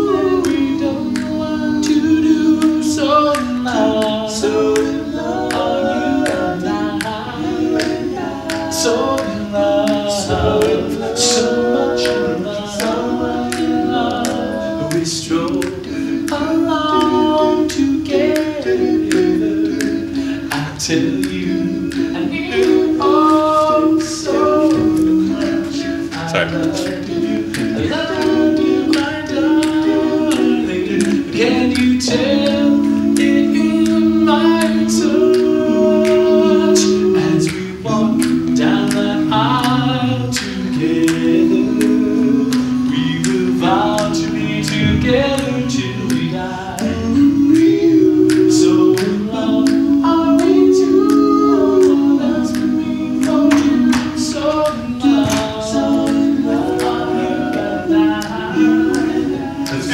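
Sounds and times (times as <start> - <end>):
male group singing in harmony: 0.0 - 59.9
sharp clicks keeping the beat: 0.0 - 59.9.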